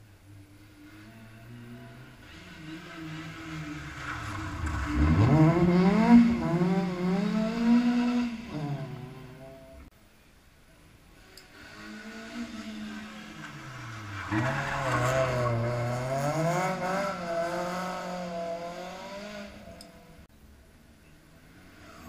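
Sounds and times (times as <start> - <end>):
rally car engine revving: 0.6 - 9.9, 11.2 - 20.3.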